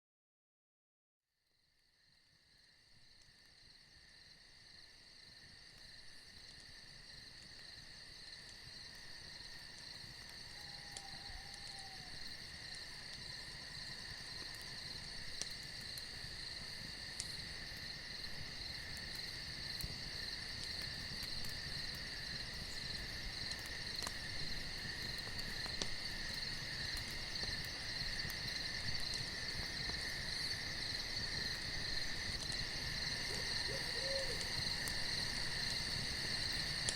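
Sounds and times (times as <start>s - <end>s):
crickets trilling: 2.0s - 36.9s.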